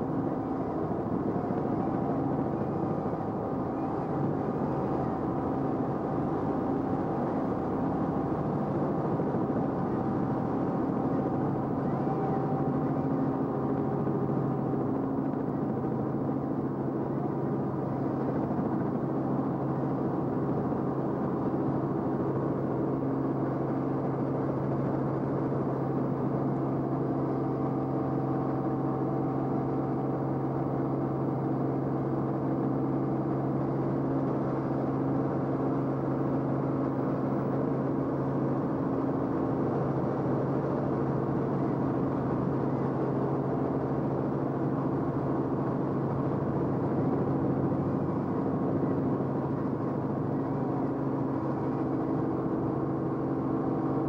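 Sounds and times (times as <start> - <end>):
aircraft engine drone in cabin: 0.0 - 54.0.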